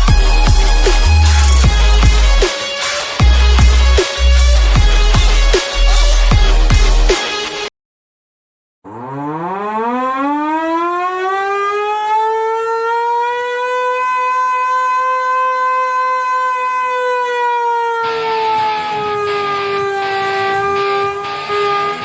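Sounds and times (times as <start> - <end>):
warning siren wailing: 0.0 - 6.5, 8.9 - 22.0.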